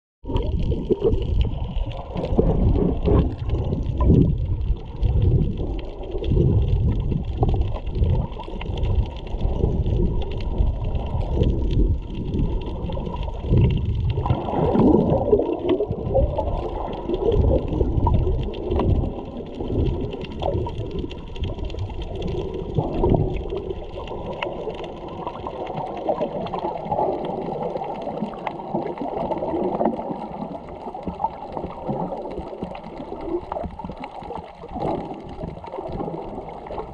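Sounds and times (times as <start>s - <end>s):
muffled underwater sloshing: 0.2s - 36.9s.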